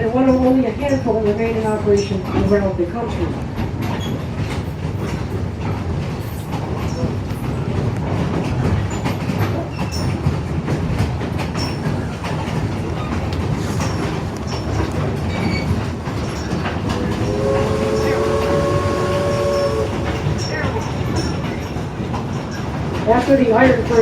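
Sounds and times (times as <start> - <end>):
train cars rumbling: 0.0 - 24.0
wheel clicks and clatter on rails: 0.0 - 24.0.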